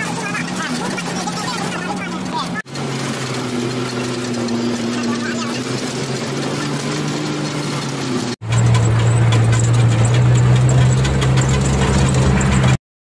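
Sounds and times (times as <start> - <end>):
truck engine drone from cab: 0.0 - 12.8.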